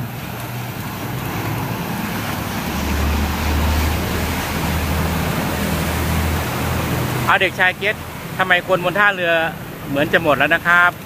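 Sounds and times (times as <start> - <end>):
boat diesel engine rumbling: 0.0 - 11.0
propeller churning water: 0.0 - 11.0.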